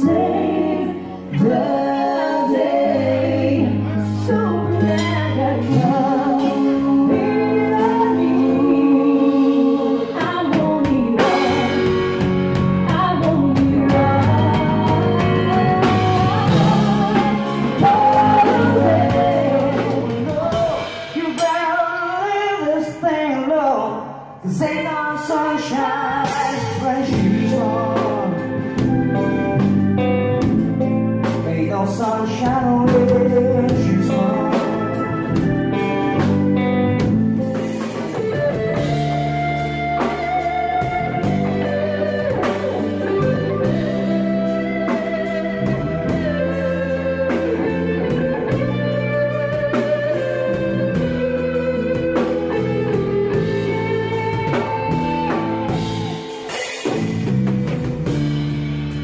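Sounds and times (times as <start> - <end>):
live band playing blues: 0.0 - 23.6, 24.4 - 59.0.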